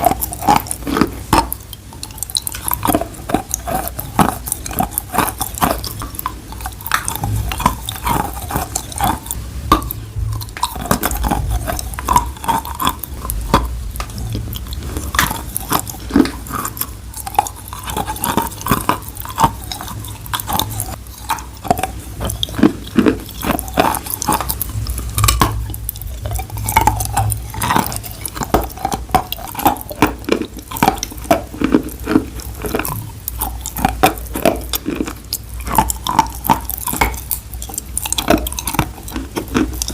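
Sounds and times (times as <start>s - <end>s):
wet crunching: 0.0s - 39.9s.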